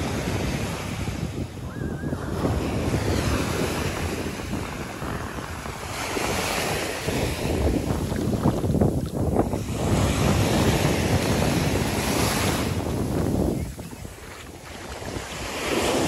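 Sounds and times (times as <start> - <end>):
surf breaking on shore: 0.0 - 16.0
wind buffeting microphone: 0.0 - 16.0.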